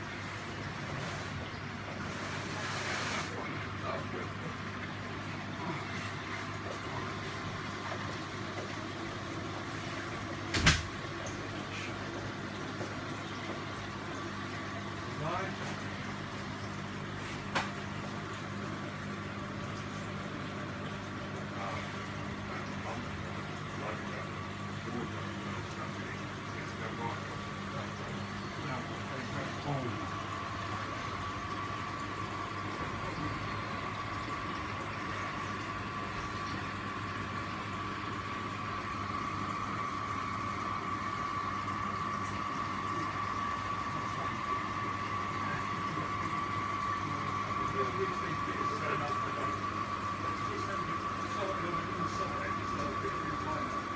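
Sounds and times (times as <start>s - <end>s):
aquarium pumps humming: 0.0s - 53.9s
circulating water rushing: 0.0s - 53.9s.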